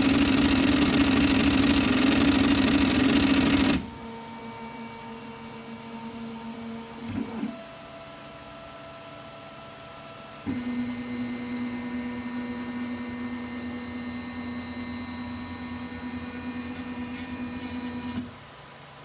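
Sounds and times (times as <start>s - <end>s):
printer motor drone: 0.0s - 18.4s.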